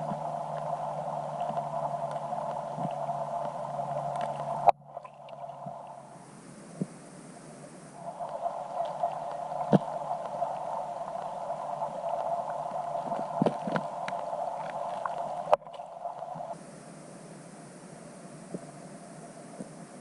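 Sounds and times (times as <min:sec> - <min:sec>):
underwater whirring hum: 0:00.0 - 0:20.0.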